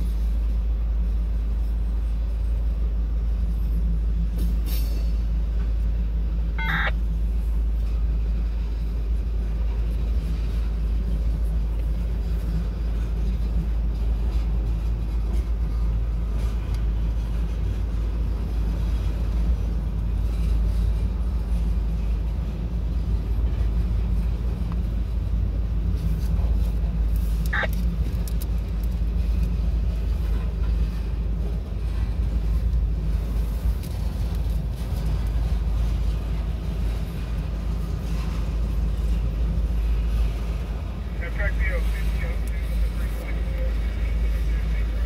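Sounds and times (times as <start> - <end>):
freight train cars rumbling: 0.0 - 45.0.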